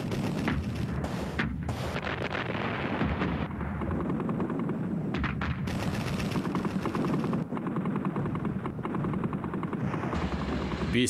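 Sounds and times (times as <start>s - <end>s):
low rumble of battle noise: 0.0s - 11.0s
machine-gun fire: 0.0s - 11.0s.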